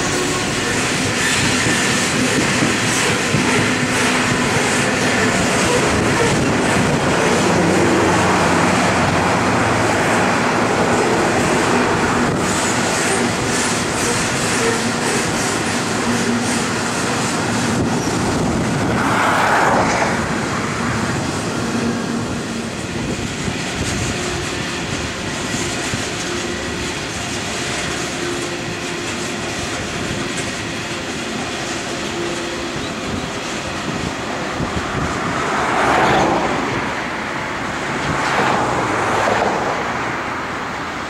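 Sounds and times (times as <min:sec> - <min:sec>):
train wheels rolling on rail: 0:00.0 - 0:41.0.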